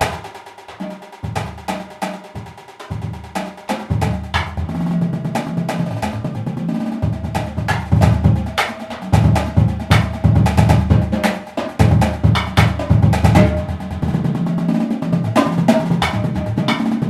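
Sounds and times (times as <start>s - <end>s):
snare drum strokes and rolls: 0.0s - 17.0s
pitched bass drums: 1.2s - 17.0s.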